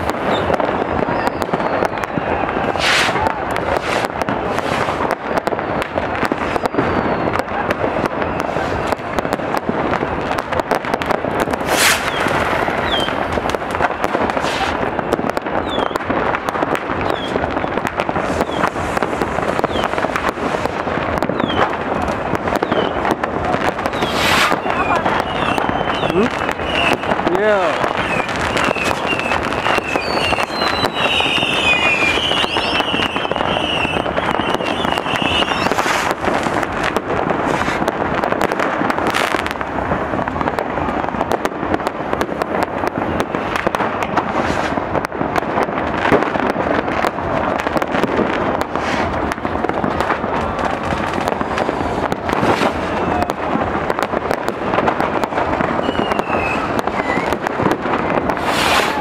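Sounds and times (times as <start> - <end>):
fireworks crackling and banging: 0.0 - 59.0.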